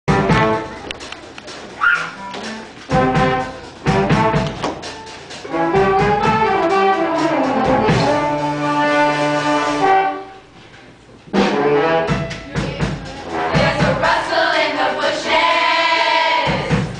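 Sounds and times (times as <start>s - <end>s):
brass band show tune: 0.1s - 1.2s, 1.8s - 10.6s, 11.3s - 16.9s.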